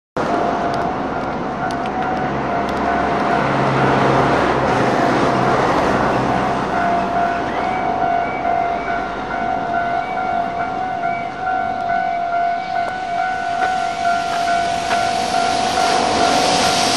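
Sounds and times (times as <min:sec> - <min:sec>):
higher warning tone: 0:00.2 - 0:16.9
level-crossing warning bell: 0:00.2 - 0:16.9
passing vehicle noise: 0:00.2 - 0:16.9.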